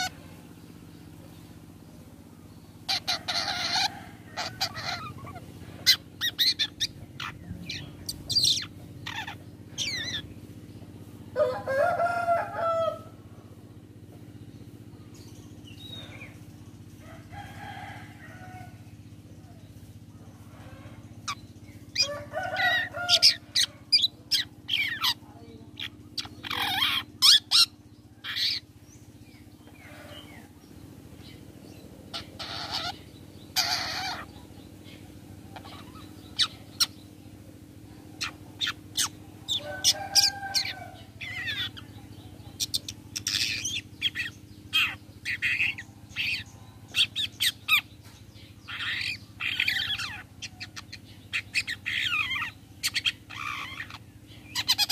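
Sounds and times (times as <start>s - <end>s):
bird harsh chattering calls: 0.0s - 54.9s
steady low hum: 0.0s - 54.9s.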